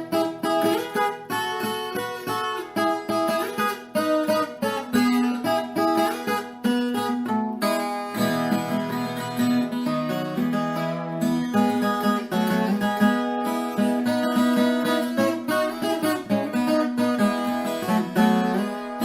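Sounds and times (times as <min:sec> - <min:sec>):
folk guitar plucked and strummed: 0:00.0 - 0:19.0.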